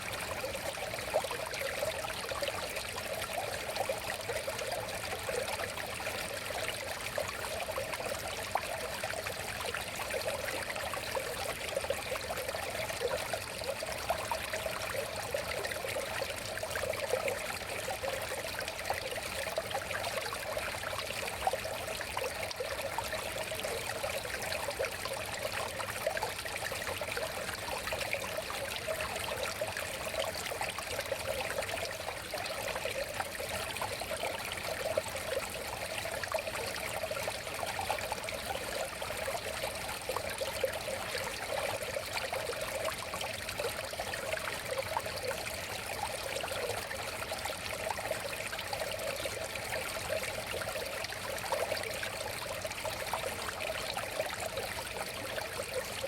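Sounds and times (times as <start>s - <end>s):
river water babbling: 0.0s - 56.0s.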